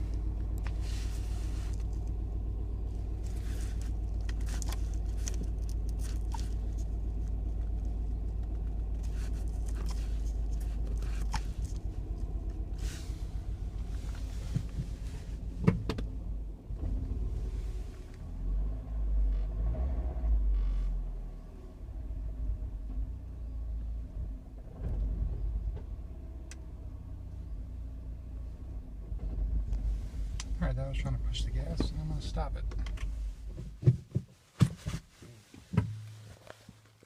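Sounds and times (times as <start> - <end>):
misfiring car engine rumble: 0.0 - 34.6.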